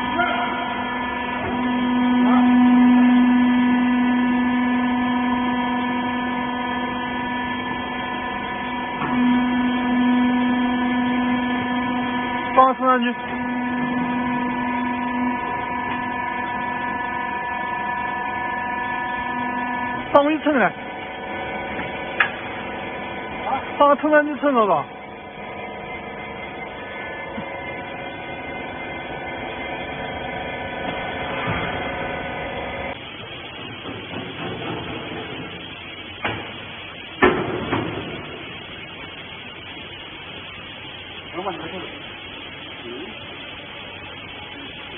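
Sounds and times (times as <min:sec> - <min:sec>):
hydraulic power unit humming: 0:00.0 - 0:44.9.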